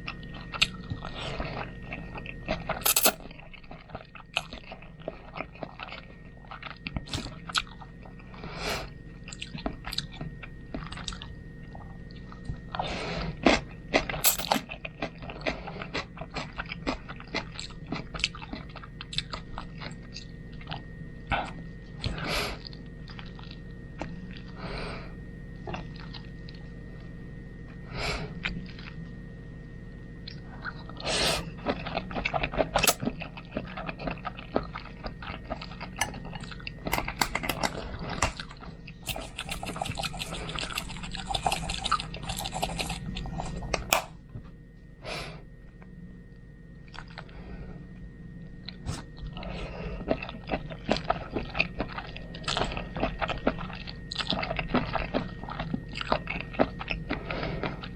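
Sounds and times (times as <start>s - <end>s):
person chewing food: 0.0s - 24.6s, 25.7s - 26.7s, 28.4s - 29.1s, 30.2s - 44.2s, 46.9s - 47.3s, 48.6s - 57.9s
faint steady hum: 0.0s - 57.9s.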